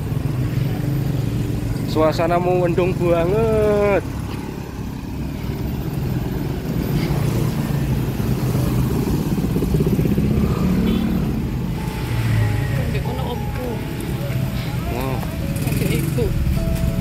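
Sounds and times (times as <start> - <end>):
motorcycle engines in traffic: 0.0 - 17.0.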